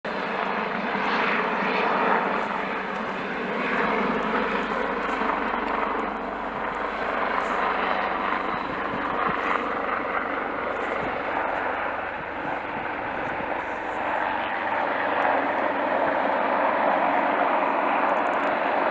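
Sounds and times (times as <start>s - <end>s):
helicopter turbine and rotor noise: 0.1s - 18.9s.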